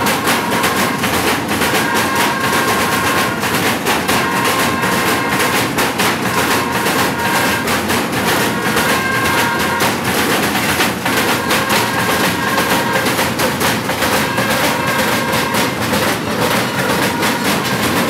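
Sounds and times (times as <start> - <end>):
large cowbells clanging: 0.0 - 18.0.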